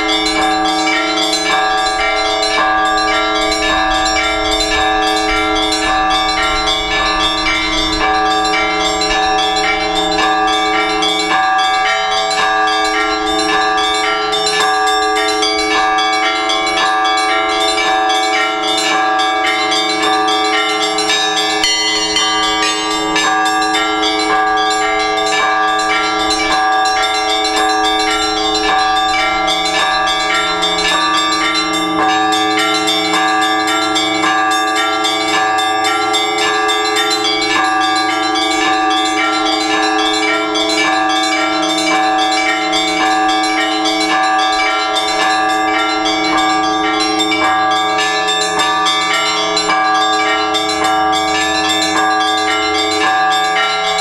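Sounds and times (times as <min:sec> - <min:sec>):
large bells humming: 0:00.0 - 0:54.0
small bells striking fast: 0:00.0 - 0:54.0.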